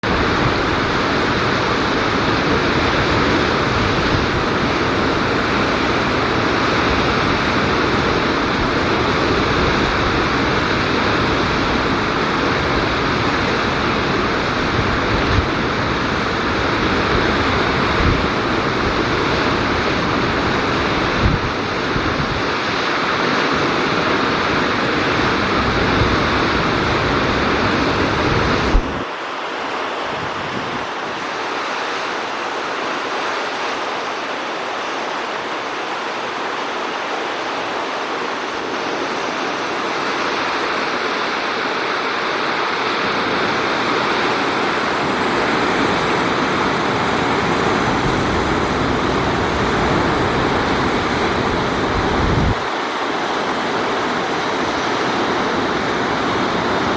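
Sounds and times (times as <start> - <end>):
wind buffeting the microphone: 0.0 - 29.2, 29.8 - 56.9
rushing water: 0.0 - 56.9
wind: 0.0 - 56.9.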